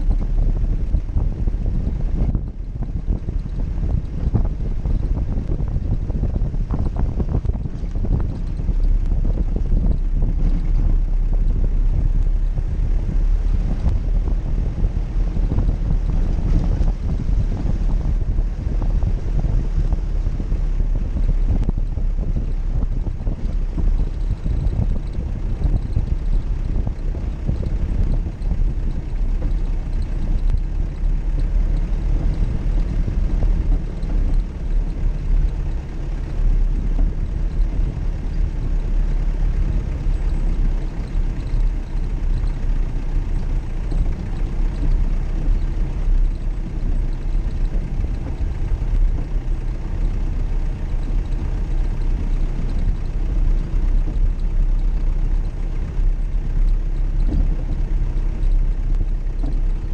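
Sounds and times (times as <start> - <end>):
vehicle engine low rumble: 0.0 - 59.9.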